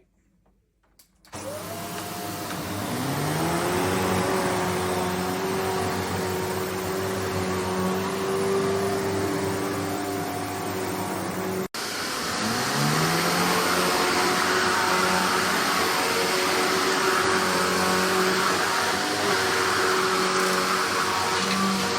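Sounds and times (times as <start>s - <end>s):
vacuum cleaner motor whine: 1.3s - 21.9s.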